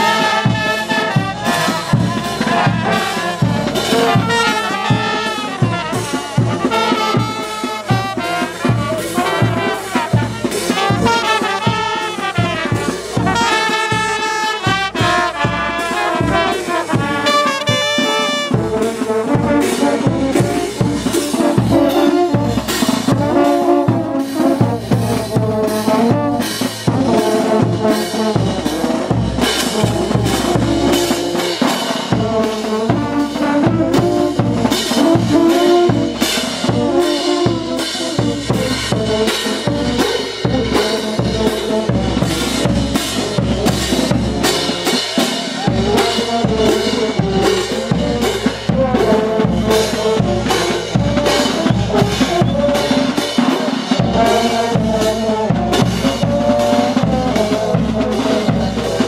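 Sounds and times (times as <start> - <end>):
brass band playing: 0.0 - 59.0
steady drum beat: 0.0 - 59.0.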